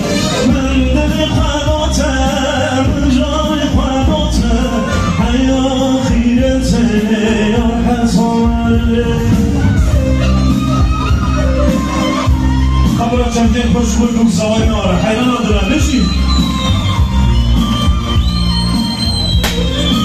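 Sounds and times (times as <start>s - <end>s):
amplified live music with singing: 0.0s - 20.0s.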